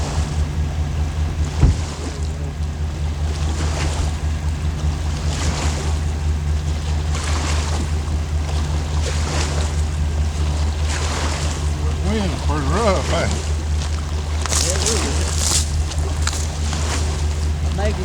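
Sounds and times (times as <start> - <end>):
small waves lapping: 0.0 - 18.0
wind buffeting microphone: 0.0 - 18.0.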